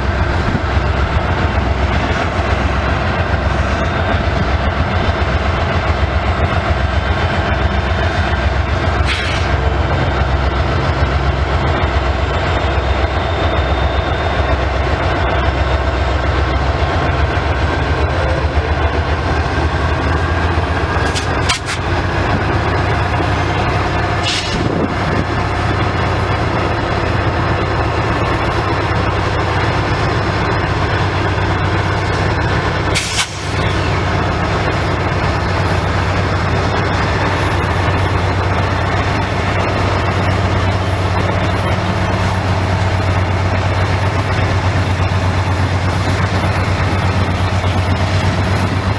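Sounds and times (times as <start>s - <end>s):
diesel locomotive idling: 0.0s - 48.9s.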